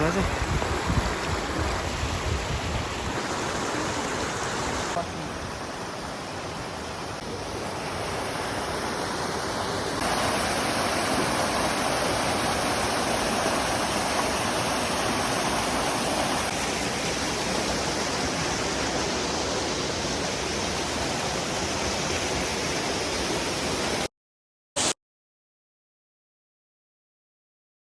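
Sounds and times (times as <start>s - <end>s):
waterfall rushing: 0.0s - 24.1s.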